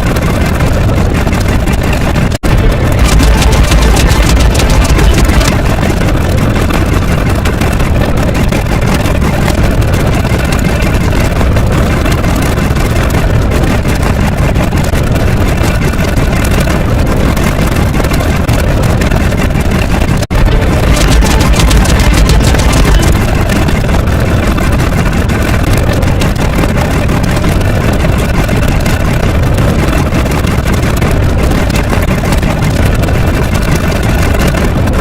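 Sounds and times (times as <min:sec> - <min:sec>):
low rumbling roar: 0:00.0 - 0:35.0.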